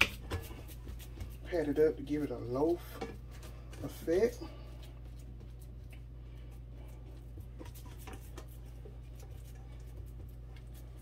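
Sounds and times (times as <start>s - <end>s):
hands patting meat mixture: 0.0s - 11.0s.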